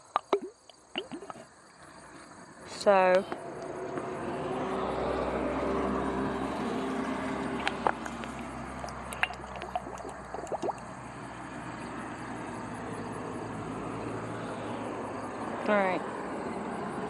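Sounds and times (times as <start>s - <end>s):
oil pouring through a funnel: 0.0s - 14.7s.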